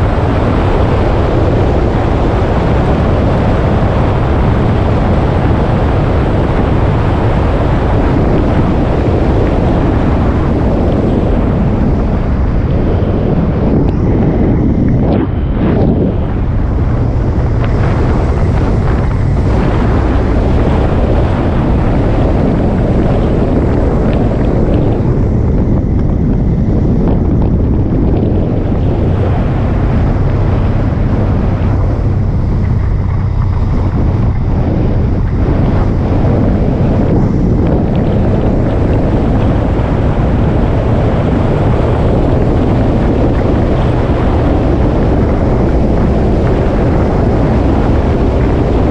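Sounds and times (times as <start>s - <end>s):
motorcycle engine drone: 0.0s - 48.9s
wind rushing over microphone: 0.0s - 48.9s.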